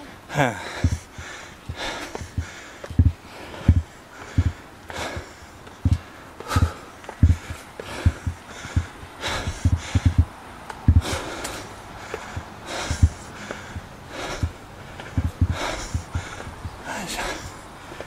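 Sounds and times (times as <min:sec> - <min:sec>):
man breathing hard: 0:00.0 - 0:18.0
footsteps on concrete steps: 0:00.6 - 0:18.0.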